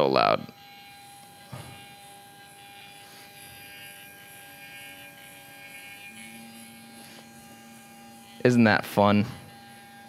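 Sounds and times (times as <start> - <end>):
stepper motor whine: 0.0 - 10.0.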